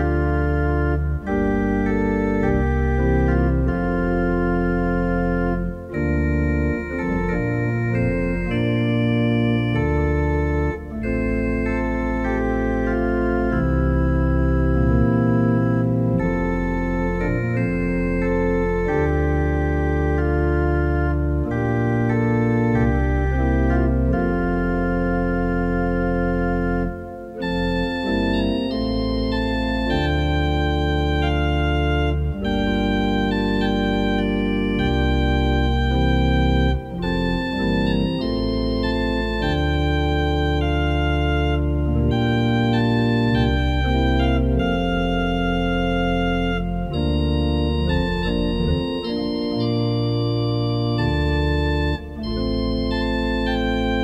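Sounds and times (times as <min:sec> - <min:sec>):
organ chords over bass notes: 0:00.0 - 0:54.0.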